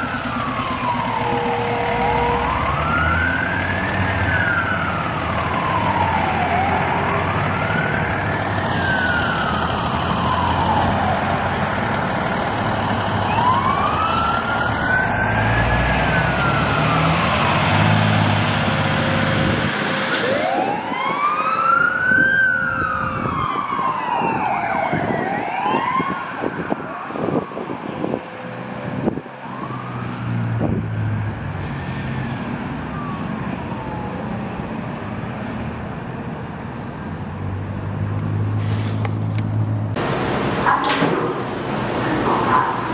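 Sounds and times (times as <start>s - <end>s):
truck engine rumble: 0.0s - 22.2s, 26.3s - 42.9s
fire truck siren wailing: 0.0s - 35.3s, 40.0s - 42.9s.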